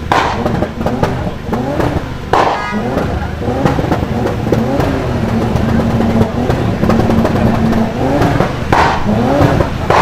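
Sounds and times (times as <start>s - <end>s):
supercar engine revving: 0.0s - 10.0s.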